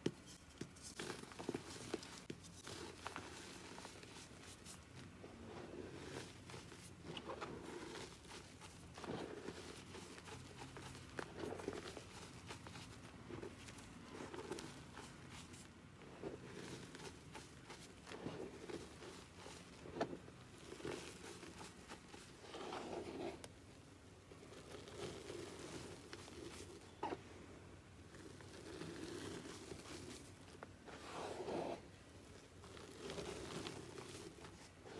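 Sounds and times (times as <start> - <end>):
chalk crunching and rustling: 0.0 - 23.5, 24.3 - 27.1, 28.1 - 34.9.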